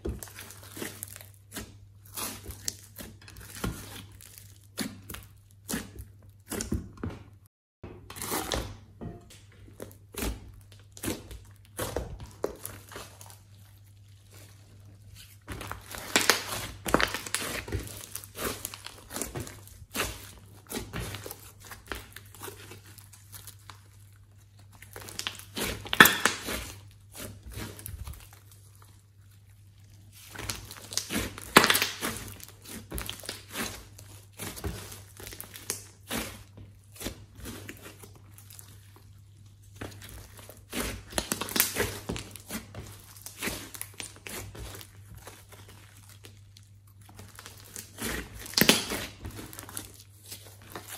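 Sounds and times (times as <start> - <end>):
slime squelching and popping: 0.0 - 6.8, 9.3 - 50.9.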